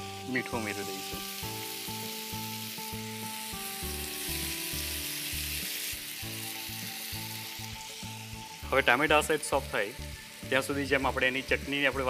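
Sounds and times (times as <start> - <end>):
soft background music: 0.0 - 12.0
tomatoes sizzling in a pan: 0.0 - 12.0.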